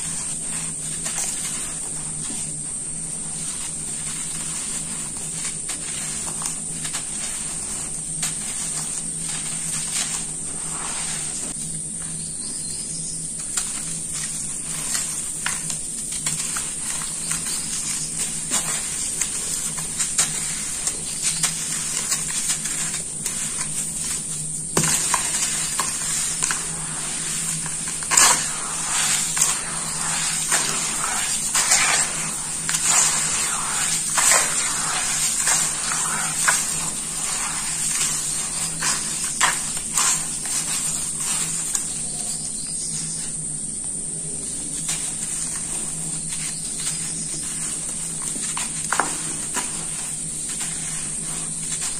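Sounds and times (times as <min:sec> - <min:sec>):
hands squishing wet cement mud: 0:00.0 - 0:43.3, 0:44.4 - 0:51.9.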